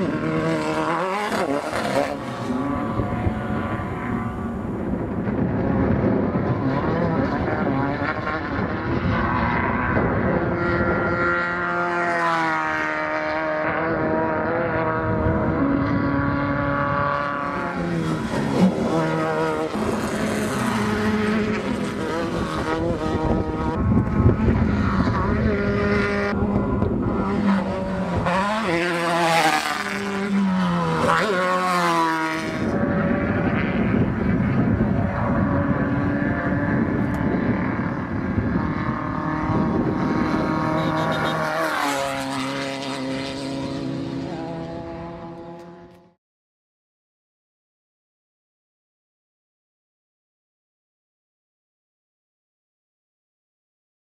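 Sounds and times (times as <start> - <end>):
race buggies passing at speed: 0.0 - 46.2.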